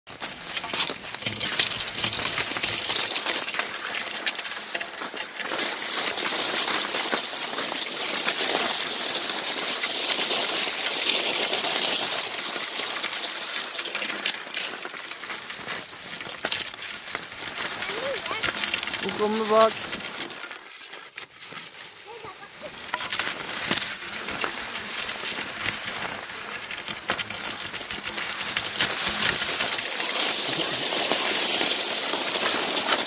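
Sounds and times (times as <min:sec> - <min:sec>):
pole tips clicking on snow: 0:00.1 - 0:33.0
skis hissing over snow: 0:00.1 - 0:33.0.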